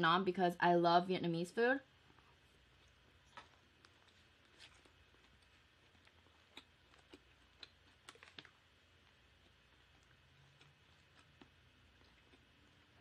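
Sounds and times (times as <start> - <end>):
chewing mouth sounds: 2.0 - 13.0.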